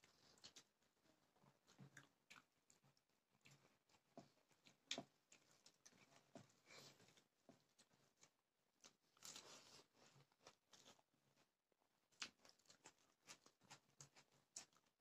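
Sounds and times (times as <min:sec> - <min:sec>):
person chewing and crunching: 0:00.0 - 0:11.1, 0:12.0 - 0:15.0.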